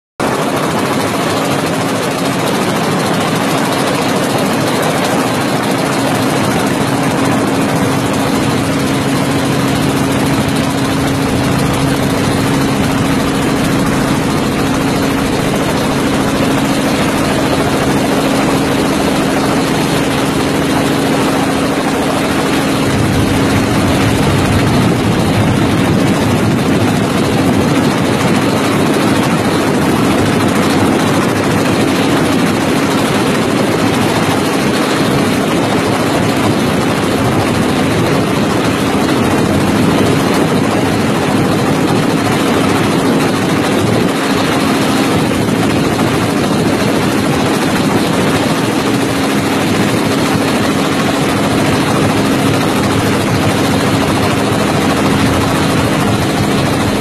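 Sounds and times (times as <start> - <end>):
helicopter engine and rotor drone: 0.2 - 57.0.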